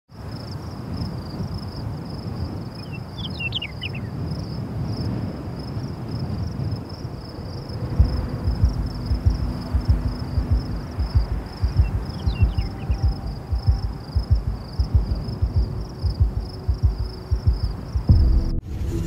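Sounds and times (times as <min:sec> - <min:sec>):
insect trill: 0:00.2 - 0:19.0
wind buffeting microphone: 0:00.2 - 0:19.0.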